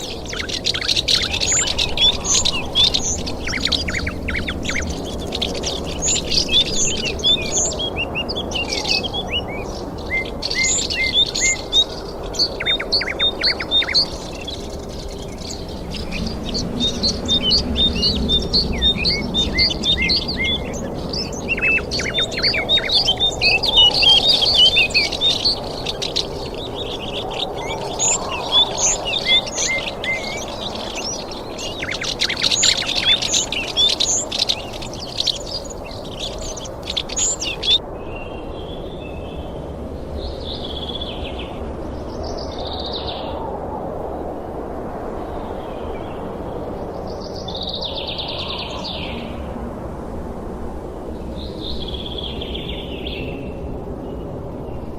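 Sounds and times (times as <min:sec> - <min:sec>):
small birds chirping and singing: 0:00.0 - 0:49.7, 0:50.9 - 0:54.9.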